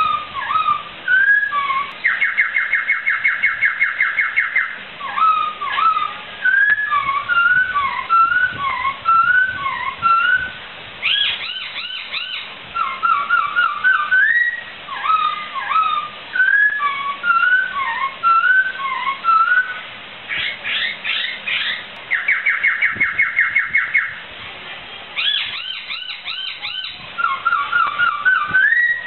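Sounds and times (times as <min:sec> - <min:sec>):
bird trill: 0:00.0 - 0:24.2, 0:25.2 - 0:29.0
bird whistling song: 0:00.0 - 0:24.2, 0:25.2 - 0:29.0.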